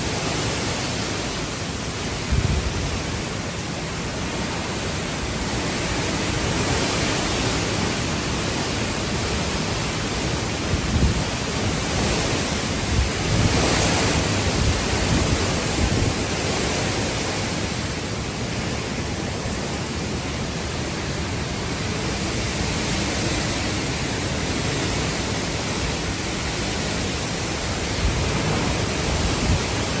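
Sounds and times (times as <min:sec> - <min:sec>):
storm wind rushing: 0:00.0 - 0:30.0
wind gusts buffeting microphone: 0:00.0 - 0:30.0.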